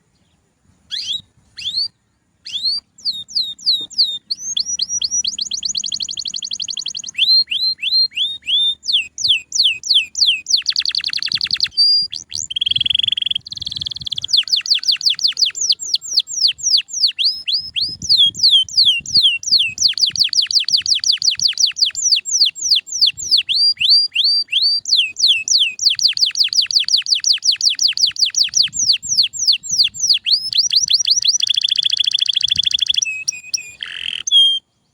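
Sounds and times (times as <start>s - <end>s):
canary singing trills: 0.9s - 34.9s.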